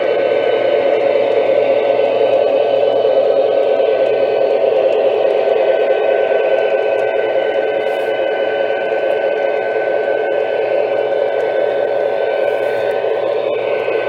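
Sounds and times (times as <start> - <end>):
high whine: 0.0 - 14.0
model train whir and hiss: 0.0 - 14.0.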